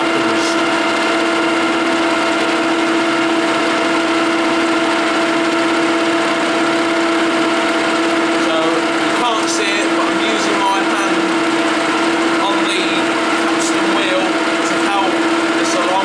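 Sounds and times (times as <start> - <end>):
lathe motor humming: 0.0 - 16.0.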